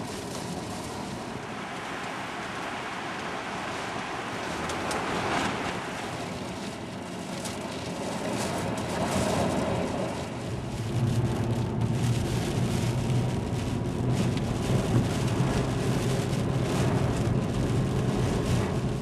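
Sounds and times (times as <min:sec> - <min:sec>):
car engine and tyre hum: 0:00.0 - 0:19.0.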